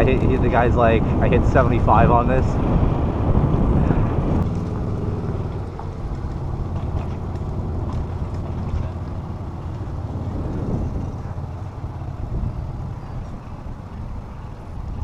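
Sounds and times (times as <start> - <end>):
bicycle road noise: 0.0 - 15.0
wind rumble: 0.0 - 15.0.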